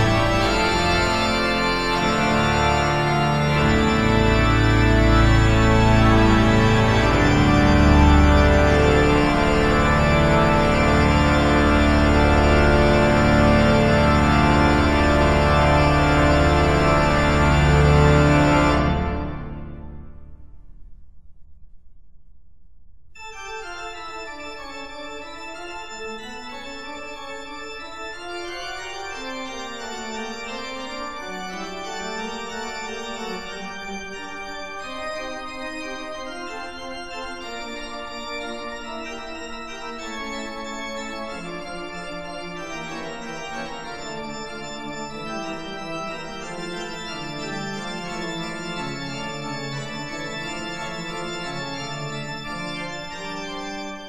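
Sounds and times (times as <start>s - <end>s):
organ music: 0.0s - 20.9s, 23.2s - 54.0s.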